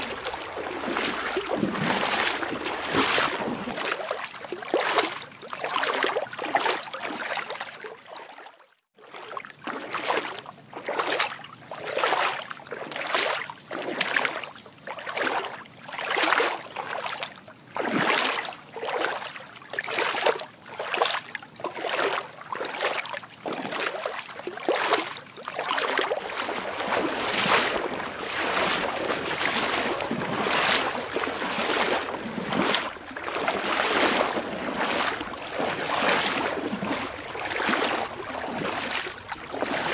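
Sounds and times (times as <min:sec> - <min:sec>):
water swishing: 0:00.0 - 0:08.4, 0:09.0 - 0:39.9.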